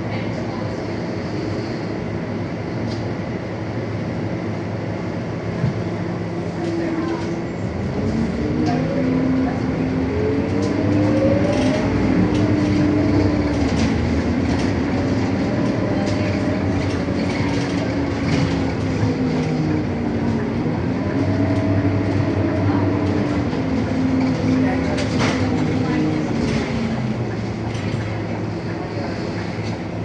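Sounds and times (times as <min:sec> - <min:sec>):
bus diesel engine whining: 0:00.0 - 0:30.0.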